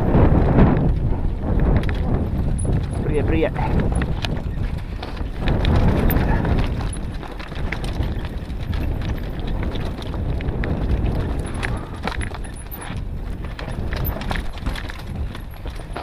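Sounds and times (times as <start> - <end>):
bike tyres rumbling over stones: 0.0 - 16.0
wheels knocking on rocks: 0.0 - 16.0.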